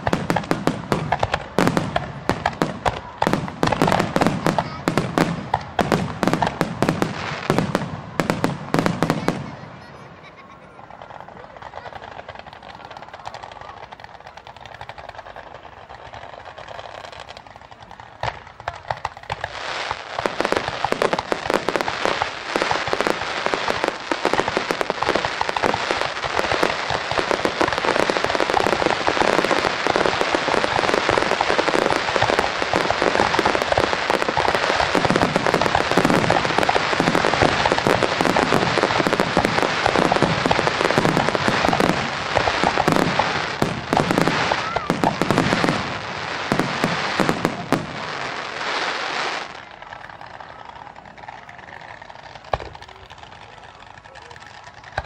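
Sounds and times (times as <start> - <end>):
fireworks bursting and crackling: 0.0 - 55.0.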